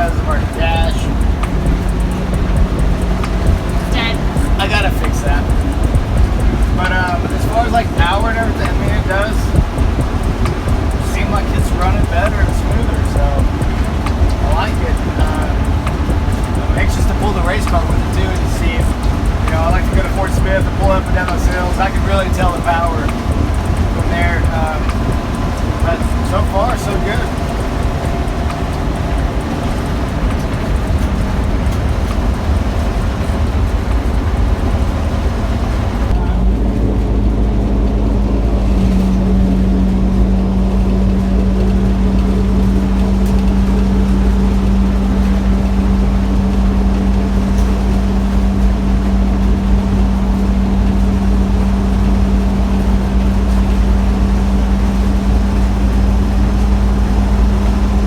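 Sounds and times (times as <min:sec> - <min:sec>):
steady hum: 0:00.0 - 0:58.0
vehicle road drone: 0:00.0 - 0:58.0.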